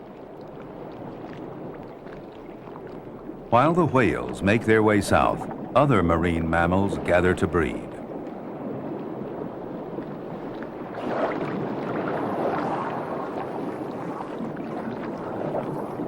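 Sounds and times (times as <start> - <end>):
sea rushing: 0.0 - 16.0
wind: 0.0 - 16.0.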